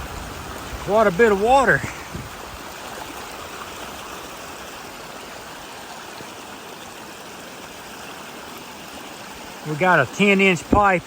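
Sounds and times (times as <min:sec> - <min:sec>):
storm runoff water flowing: 0:00.0 - 0:11.0.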